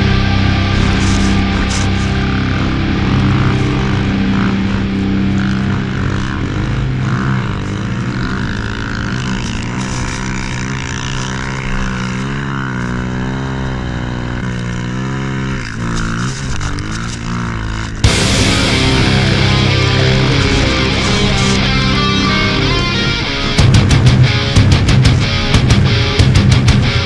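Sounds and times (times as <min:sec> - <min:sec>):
snow bike engine revving: 0:00.0 - 0:27.0.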